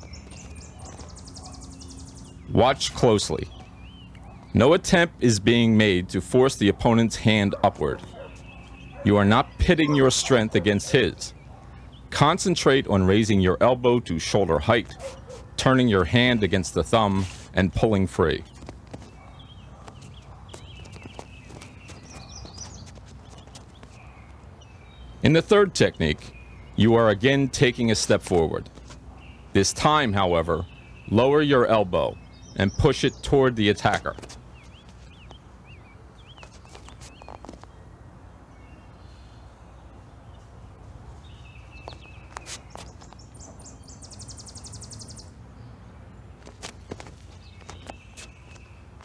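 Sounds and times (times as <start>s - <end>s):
songbirds chirping: 0.0s - 49.0s.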